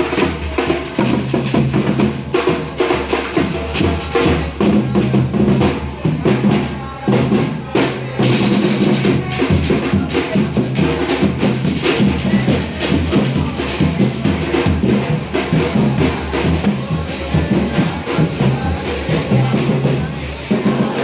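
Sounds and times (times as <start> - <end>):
parade band music: 0.0 - 21.0
snare drum beating: 0.0 - 21.0
bass drum beating: 3.4 - 21.0.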